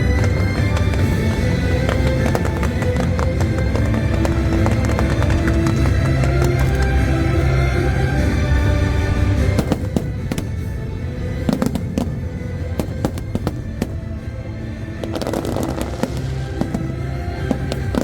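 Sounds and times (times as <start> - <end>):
fireworks bangs and crackles: 0.0 - 18.0
music: 0.0 - 18.0.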